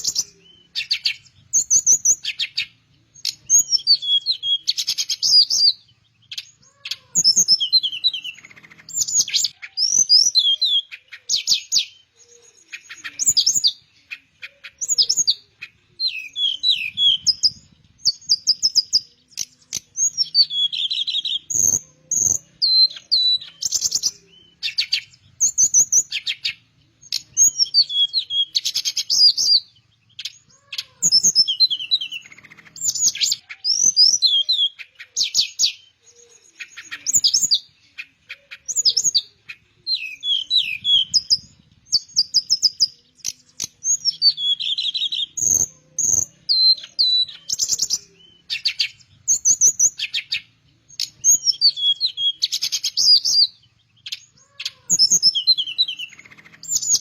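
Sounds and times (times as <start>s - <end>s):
flycatcher singing: 0.0s - 57.0s.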